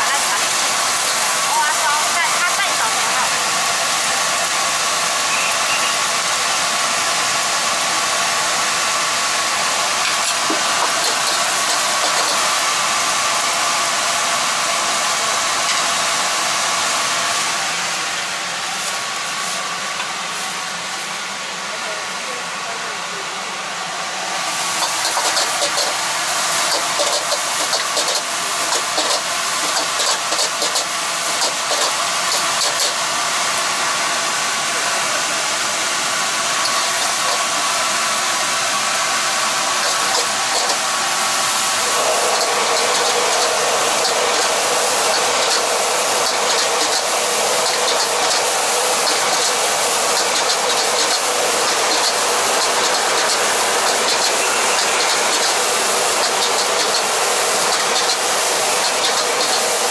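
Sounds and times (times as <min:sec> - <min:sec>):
rice sizzling in a wok: 0:00.0 - 0:21.8, 0:22.5 - 0:59.9.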